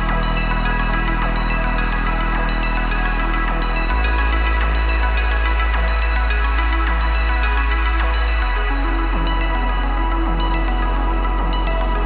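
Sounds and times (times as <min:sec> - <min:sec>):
ambient electronic music: 0:00.0 - 0:12.0.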